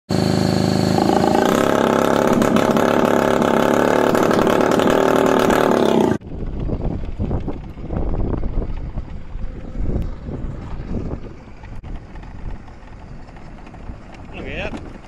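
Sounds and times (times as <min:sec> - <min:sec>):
two-stroke scooter engine running: 0:00.1 - 0:15.0
cordless drill spinning engine: 0:01.0 - 0:15.0.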